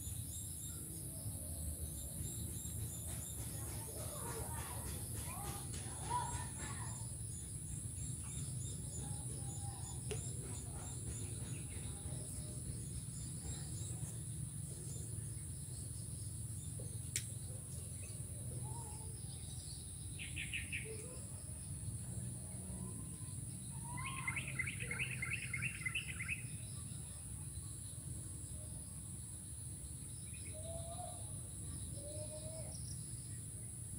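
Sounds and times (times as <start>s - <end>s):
birds chirping: 0.0s - 33.6s.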